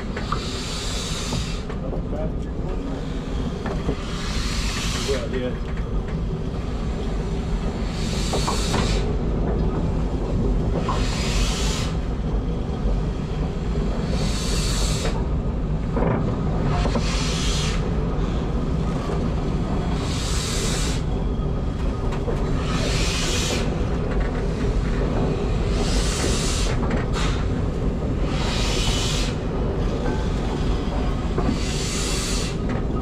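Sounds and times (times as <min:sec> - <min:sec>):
hissing steam exhaust beats: 0:00.0 - 0:33.0
locomotive wheels rumbling: 0:00.0 - 0:33.0.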